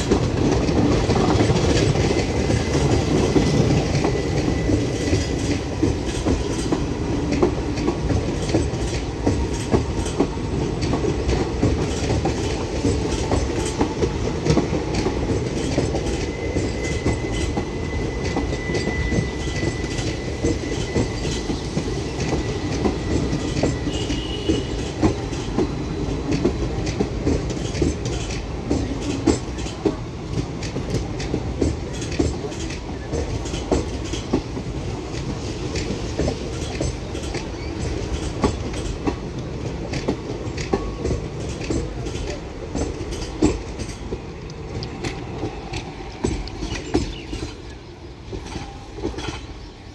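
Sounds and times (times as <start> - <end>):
train coaches rumbling past: 0.0 - 49.9
wheels clickety-clack over rail joints: 0.0 - 49.9.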